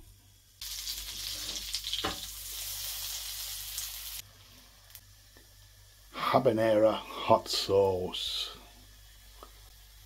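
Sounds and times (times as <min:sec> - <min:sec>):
butter sizzling in a frying pan: 0:00.0 - 0:06.1, 0:06.7 - 0:10.0.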